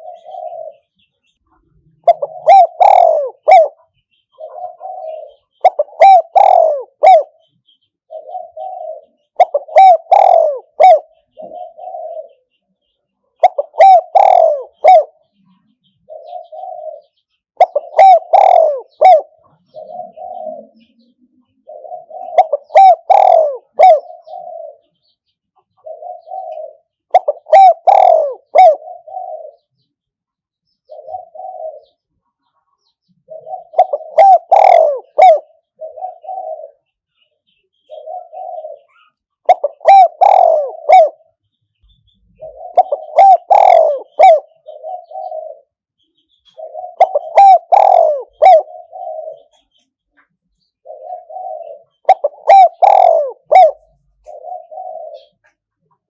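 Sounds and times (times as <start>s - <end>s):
dove cooing: 0.0s - 12.6s, 13.3s - 29.8s, 30.8s - 32.1s, 32.8s - 56.0s.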